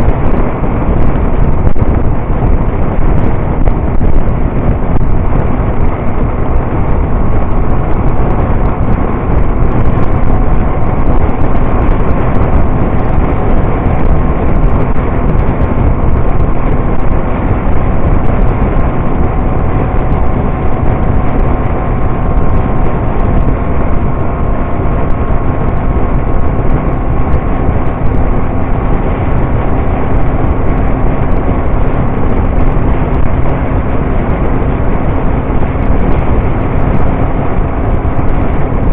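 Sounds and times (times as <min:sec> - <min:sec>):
faint motorcycle engine hum: 0:00.0 - 0:38.9
wind rush over microphone: 0:00.0 - 0:38.9.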